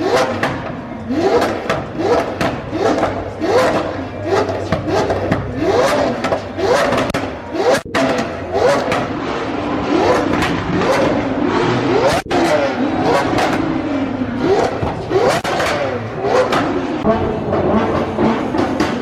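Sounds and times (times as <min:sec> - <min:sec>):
car engine revving: 0:00.0 - 0:19.0
crowd noise: 0:00.0 - 0:19.0.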